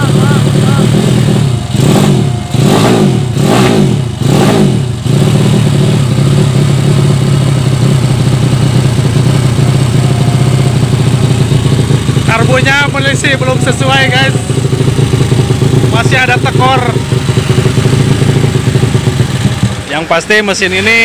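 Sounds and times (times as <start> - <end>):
motorcycle engine revving and idling: 0.0 - 21.0.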